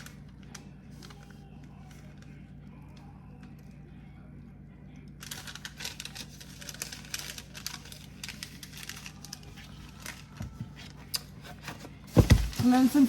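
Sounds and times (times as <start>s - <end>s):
paper or plastic crinkling: 0.0s - 3.6s, 5.2s - 13.0s.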